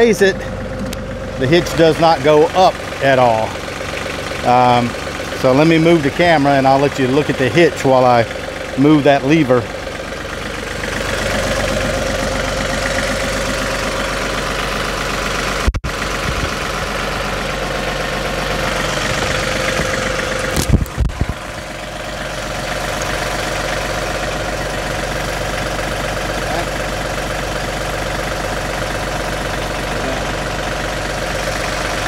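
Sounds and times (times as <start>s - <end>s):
diesel tractor engine idling: 0.0s - 32.0s.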